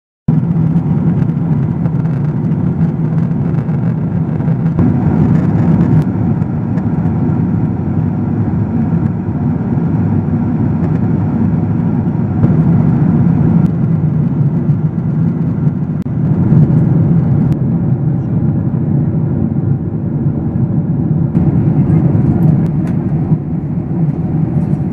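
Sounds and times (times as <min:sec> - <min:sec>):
airplane cabin engine rumble: 0:00.3 - 0:24.9.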